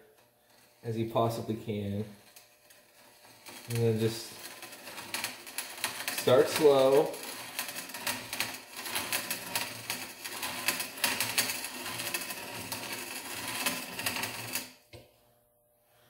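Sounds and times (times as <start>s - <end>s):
auger shaving wood clicking: 0.1s - 0.8s, 2.0s - 14.9s.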